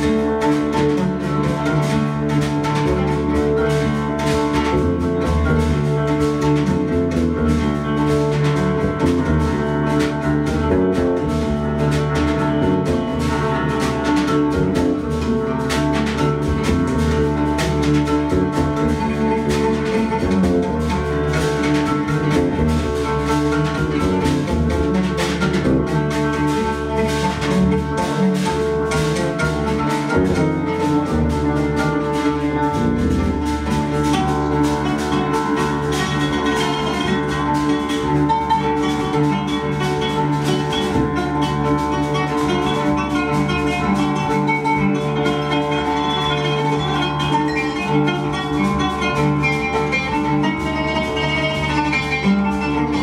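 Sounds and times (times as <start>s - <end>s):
electric bass: 0.0s - 53.0s
piano: 0.0s - 53.0s
plucked oud: 0.0s - 53.0s.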